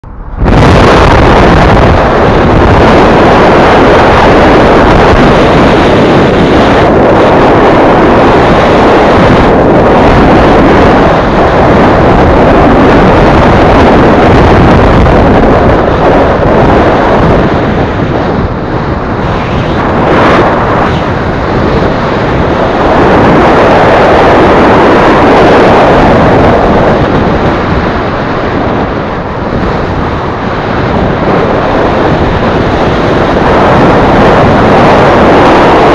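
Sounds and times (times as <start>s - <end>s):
road and engine noise: 0.0s - 35.9s
wind buffeting microphone: 0.0s - 35.9s.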